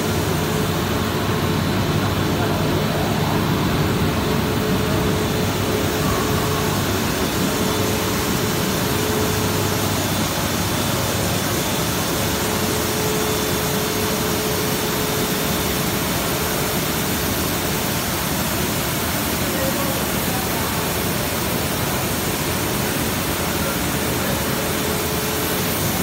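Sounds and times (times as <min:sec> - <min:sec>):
industrial machine noise: 0:00.0 - 0:26.0
mid-pitched machine whine: 0:00.0 - 0:26.0.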